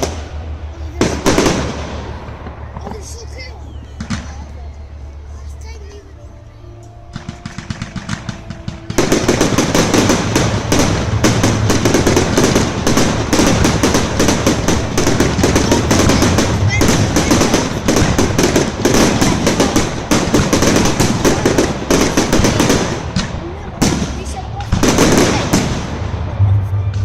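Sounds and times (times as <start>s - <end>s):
fireworks crackling and banging: 0.0s - 6.1s, 6.8s - 27.0s.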